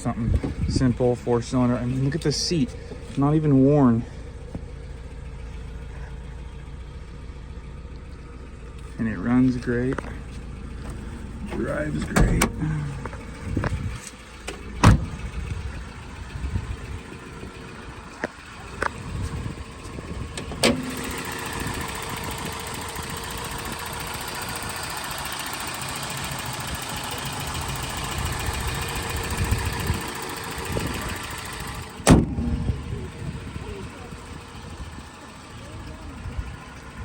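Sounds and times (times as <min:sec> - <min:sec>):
pickup engine idling: 0:00.0 - 0:37.0.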